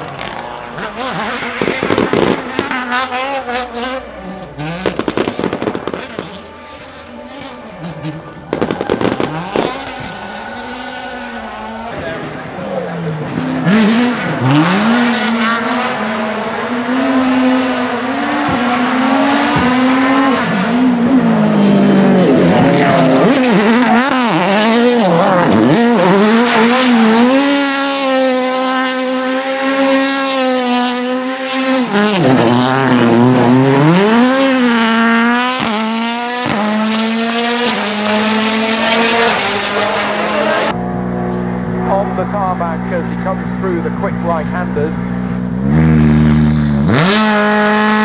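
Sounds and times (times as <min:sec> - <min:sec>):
rally car engine at high revs: 0:00.0 - 0:48.0.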